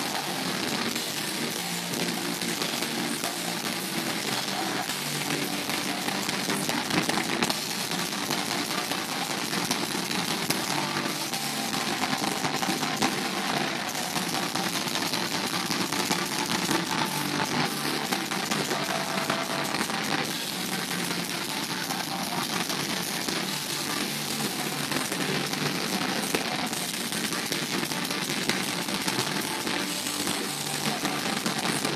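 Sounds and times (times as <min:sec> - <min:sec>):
distorted guitars: 0:00.0 - 0:31.9
drums: 0:00.0 - 0:31.9.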